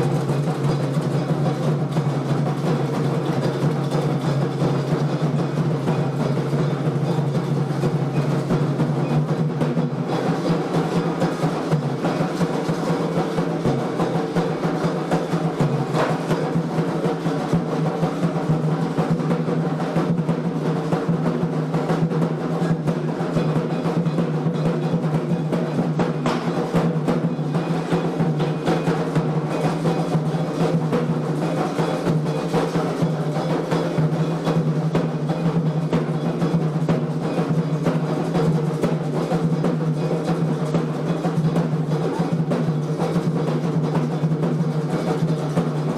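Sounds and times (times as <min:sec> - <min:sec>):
hand drums playing fast rhythm: 0:00.0 - 0:45.9.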